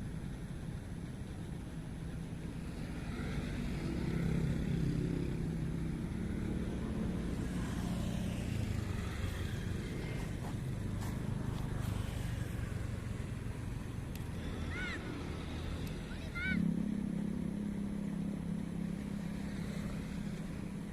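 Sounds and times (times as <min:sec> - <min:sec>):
motor engine running: 0:02.6 - 0:20.9.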